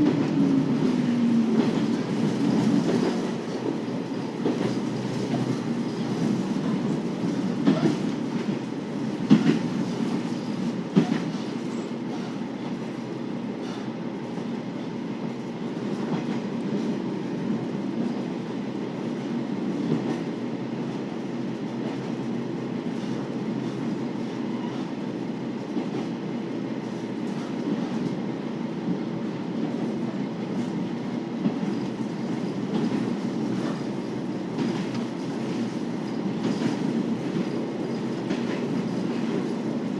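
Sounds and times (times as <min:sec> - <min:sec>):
railcar engine and wheels rumbling: 0:00.0 - 0:39.9.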